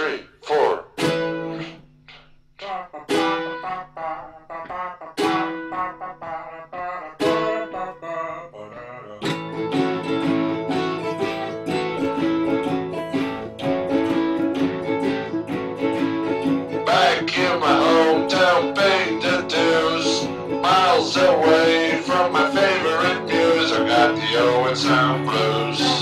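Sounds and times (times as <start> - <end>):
acoustic guitar and ukulele strumming: 0.0 - 8.5, 9.1 - 26.0.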